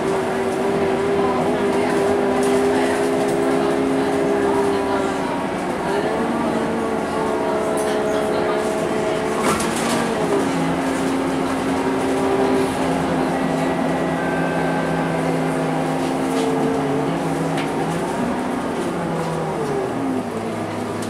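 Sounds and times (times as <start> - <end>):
bus diesel engine droning: 0.0 - 21.0
road and tyre noise: 0.0 - 21.0.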